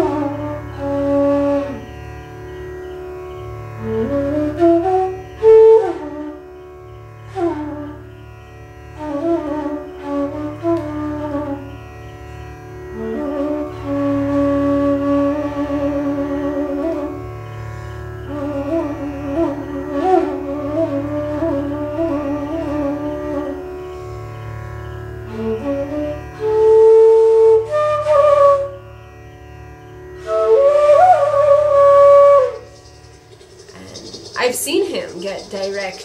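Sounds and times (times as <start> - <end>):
flute playing slow melody: 0.0 - 8.2, 9.0 - 29.2, 29.9 - 33.1.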